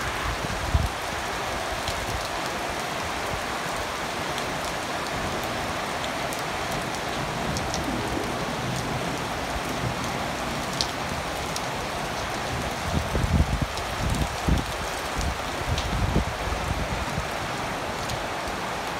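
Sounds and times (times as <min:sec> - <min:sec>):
heavy rain falling: 0:00.0 - 0:18.9.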